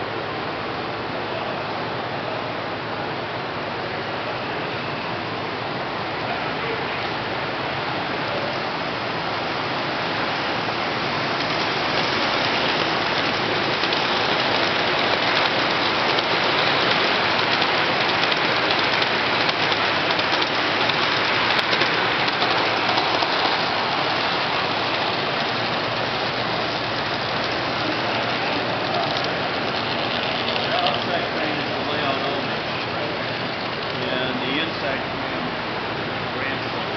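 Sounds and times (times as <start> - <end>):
model train wheels on track: 5.7 - 36.9.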